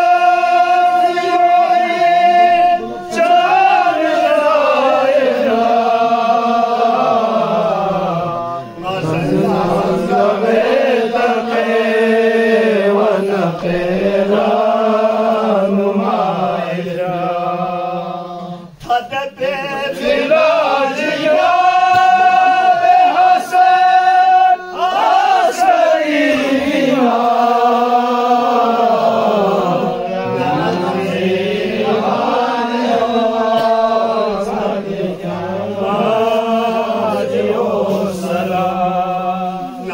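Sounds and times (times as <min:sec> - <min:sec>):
men chanting: 0:00.0 - 0:39.9.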